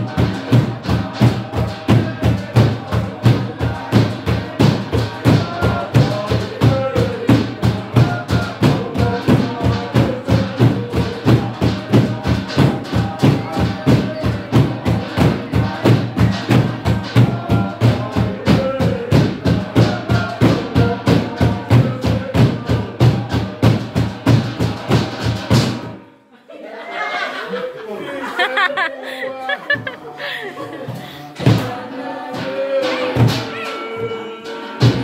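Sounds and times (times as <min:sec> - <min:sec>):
group singing: 0:00.0 - 0:35.0.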